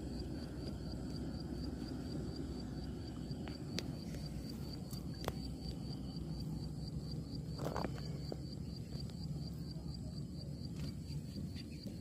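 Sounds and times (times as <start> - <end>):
insect chirping: 0.0 - 12.0
low background hiss: 0.0 - 12.0.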